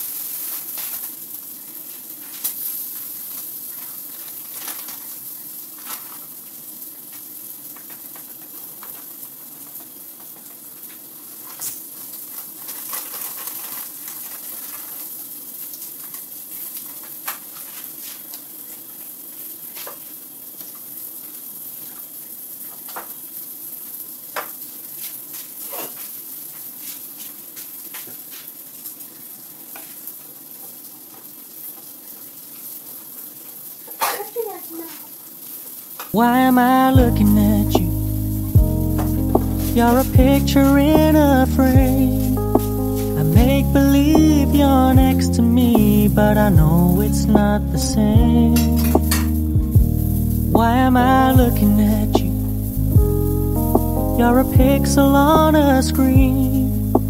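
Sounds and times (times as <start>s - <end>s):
food sizzling in a pan: 0.0s - 47.7s, 48.4s - 55.4s.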